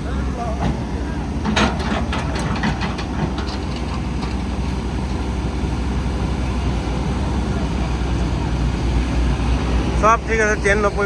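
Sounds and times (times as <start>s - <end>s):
excavator diesel engine droning: 0.0s - 11.0s.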